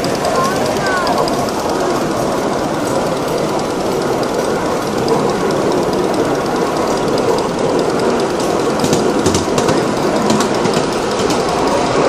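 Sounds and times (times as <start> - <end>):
light clicks: 0.0 - 12.0
train wheels running on rails: 0.0 - 12.0.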